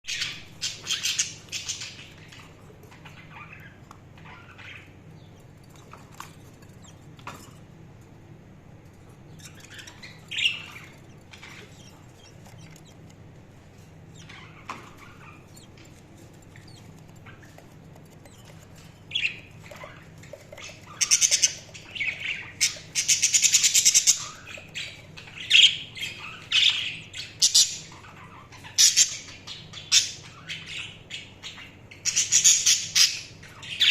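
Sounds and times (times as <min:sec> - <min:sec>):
budgerigars chirping and squawking: 0:00.1 - 0:07.7, 0:08.8 - 0:33.9.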